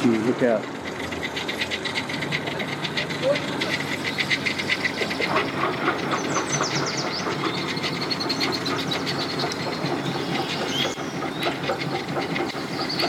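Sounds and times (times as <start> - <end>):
boat engines humming: 0.0 - 13.0
fast clicking rattle: 0.0 - 13.0.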